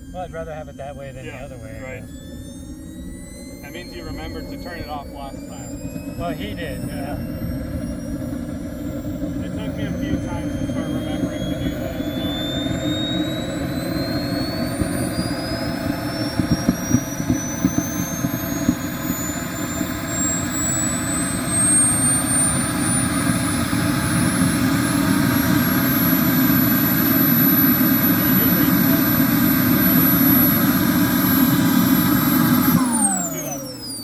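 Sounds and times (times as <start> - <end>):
jet turbine whine spooling up: 0.0 - 34.0.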